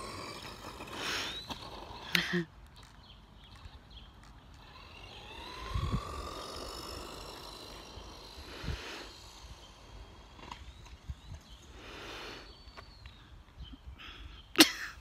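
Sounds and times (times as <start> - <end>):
high motor whine: 0.0 - 13.9.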